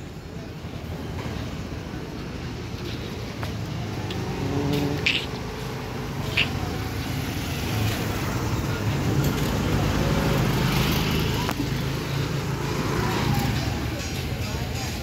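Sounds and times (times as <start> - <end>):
street traffic noise: 0.0 - 15.0
vehicle engine humming: 0.0 - 15.0.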